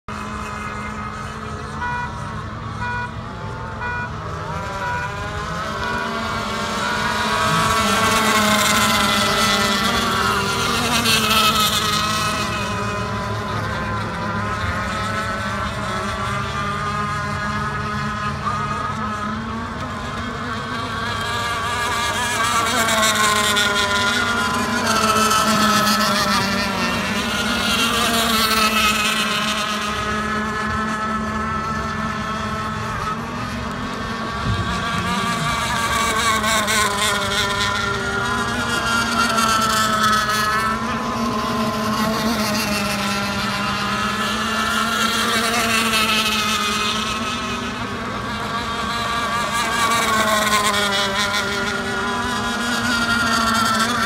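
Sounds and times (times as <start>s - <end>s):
radio-controlled boat engine buzzing: 0.0s - 54.0s.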